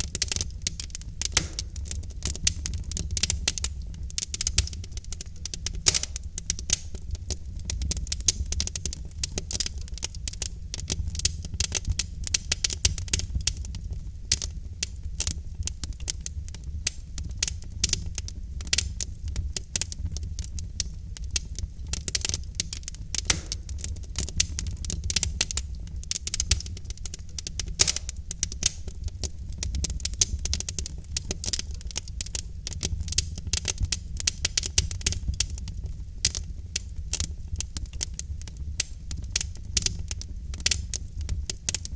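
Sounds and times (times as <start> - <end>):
fire low rumble: 0.0 - 41.9
wood fire crackling and popping: 0.0 - 41.9.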